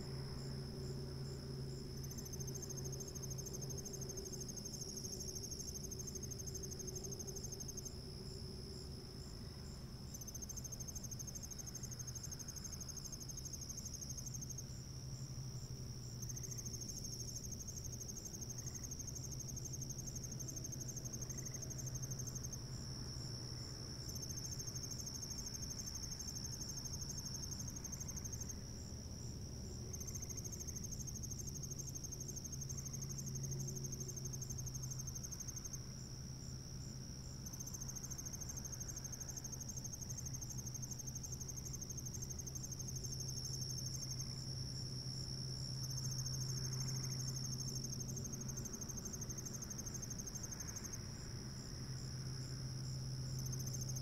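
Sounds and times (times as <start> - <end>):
crickets trilling: 0.0 - 54.0
low steady hum: 0.0 - 54.0.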